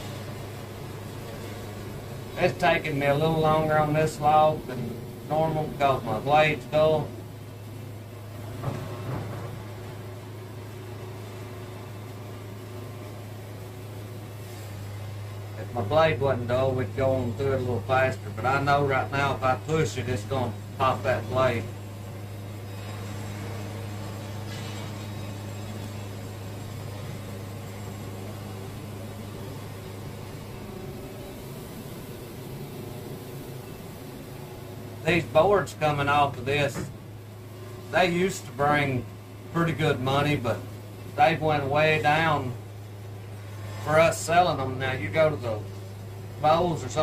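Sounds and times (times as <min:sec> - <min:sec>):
band sawmill cutting log: 0:00.0 - 0:47.0.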